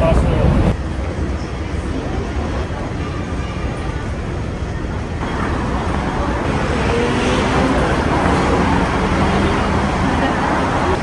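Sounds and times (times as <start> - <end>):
city road traffic hum: 0.0 - 11.0
passers-by talking faintly: 0.0 - 11.0.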